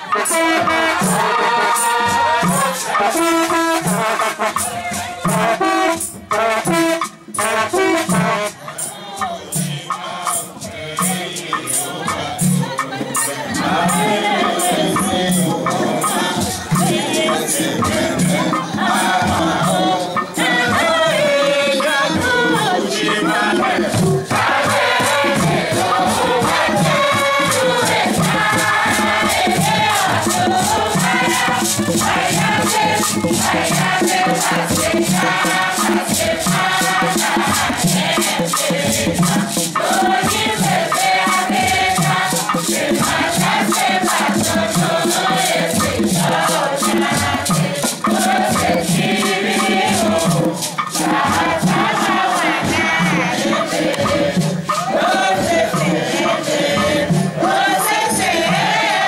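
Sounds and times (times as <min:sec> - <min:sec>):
hand drums: 0:00.0 - 0:59.0
mixed choir singing: 0:00.0 - 0:59.0
rattling shaker: 0:00.1 - 0:58.1.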